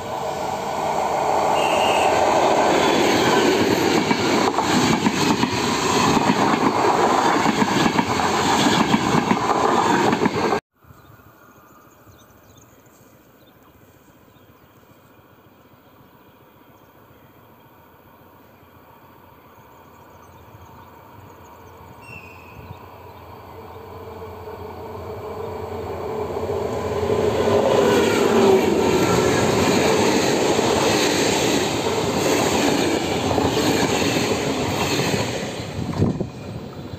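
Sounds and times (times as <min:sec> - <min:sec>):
diesel train engine: 0:00.0 - 0:10.6, 0:15.1 - 0:36.9.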